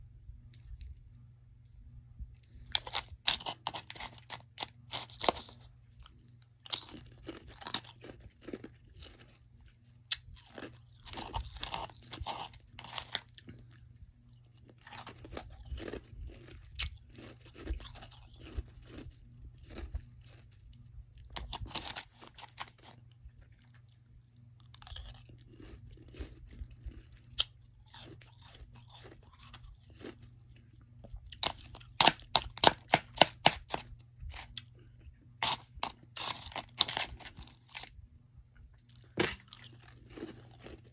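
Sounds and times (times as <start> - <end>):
chewing crunchy frost: 0.4 - 40.9.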